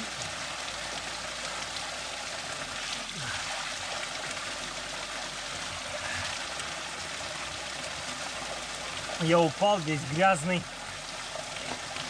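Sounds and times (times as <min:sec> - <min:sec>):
spring water bubbling and rushing: 0:00.0 - 0:12.0.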